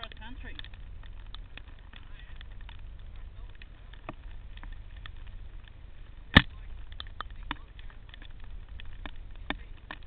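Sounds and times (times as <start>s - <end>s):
bike rattling over dirt trail: 0.0s - 10.0s
low steady rumble: 0.0s - 10.0s.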